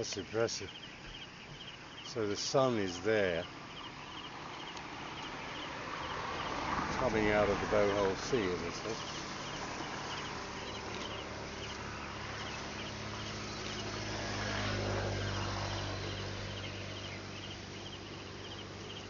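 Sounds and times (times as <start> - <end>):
insects chirping in trills: 0.0 - 19.0.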